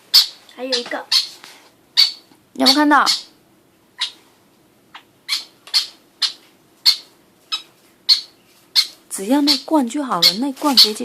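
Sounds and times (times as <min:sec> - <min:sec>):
baby bird chirping: 0:00.1 - 0:03.4, 0:04.0 - 0:04.2, 0:04.9 - 0:11.0.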